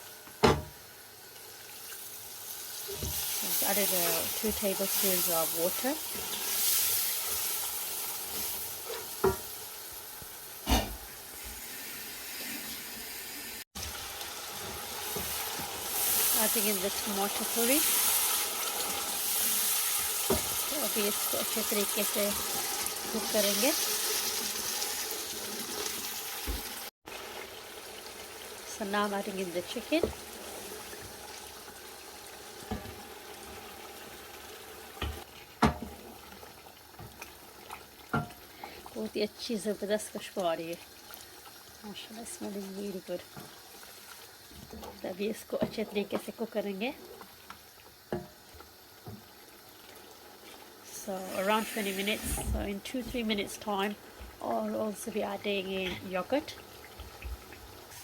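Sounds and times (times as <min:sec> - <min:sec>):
spices sizzling in a pot: 0:00.0 - 0:58.0.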